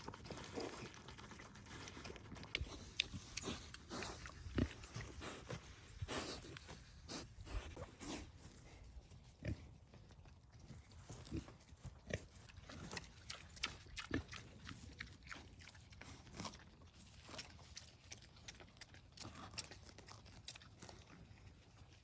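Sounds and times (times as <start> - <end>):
piglets chewing and crunching: 0.0 - 22.0.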